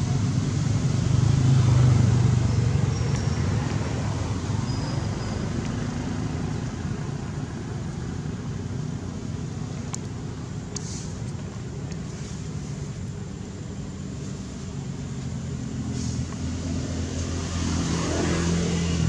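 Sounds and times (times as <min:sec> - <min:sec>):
passing vehicle rumble: 0:00.0 - 0:19.0.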